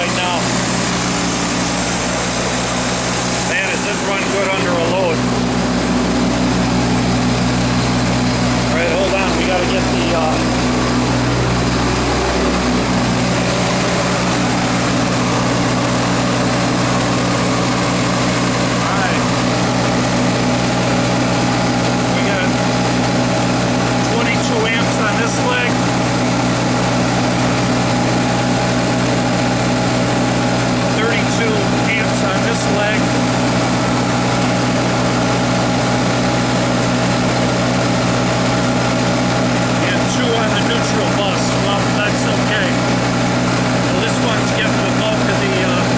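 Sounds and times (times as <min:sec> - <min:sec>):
generator engine running: 0:00.0 - 0:45.9.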